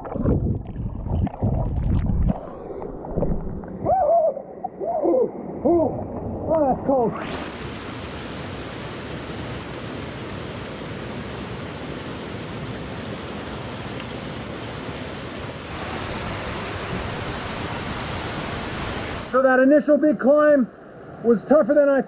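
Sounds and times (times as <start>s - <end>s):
water rushing over rocks: 0.0s - 3.9s, 5.6s - 19.4s.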